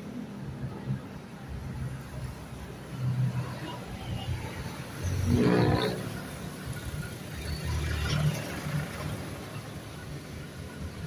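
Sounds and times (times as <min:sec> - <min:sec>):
steady traffic noise: 0:00.0 - 0:11.0.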